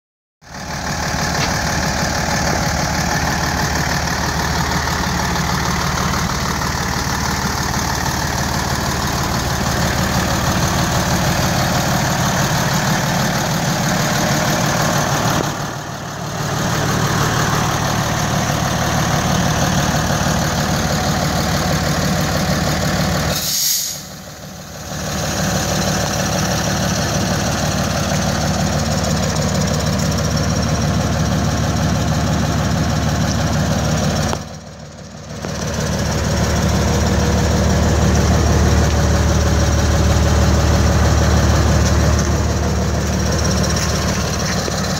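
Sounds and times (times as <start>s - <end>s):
truck diesel engine idling: 0.4s - 44.9s.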